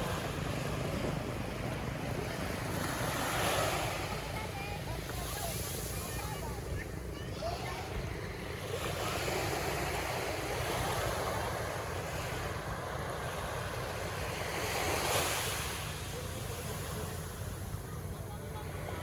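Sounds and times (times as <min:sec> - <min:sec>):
sea surf washing onto beach: 0:00.0 - 0:19.0.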